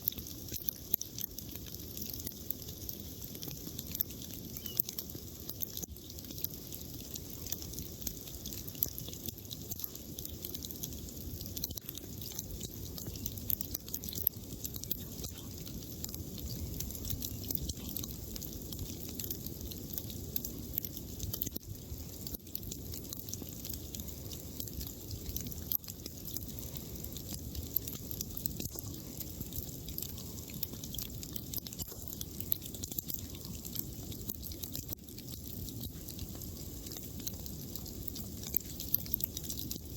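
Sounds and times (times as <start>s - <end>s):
campfire crackling: 0.0s - 39.9s
low rush of flames: 0.0s - 39.9s.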